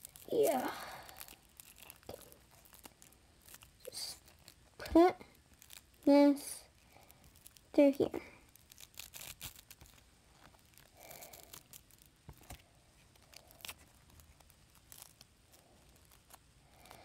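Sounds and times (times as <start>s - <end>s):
faint ribbon rustling: 0.0s - 17.0s.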